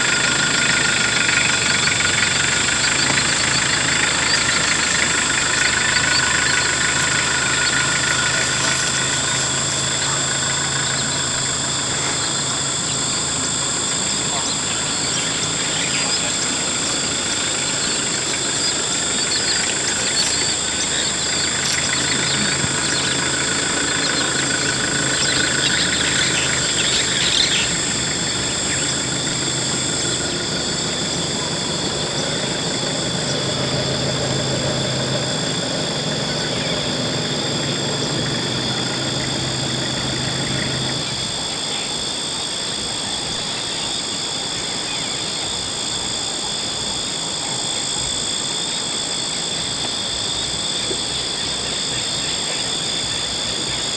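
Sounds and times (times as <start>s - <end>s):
high-pitched whine: 0.0s - 53.9s
vehicle engine idling: 0.0s - 53.9s.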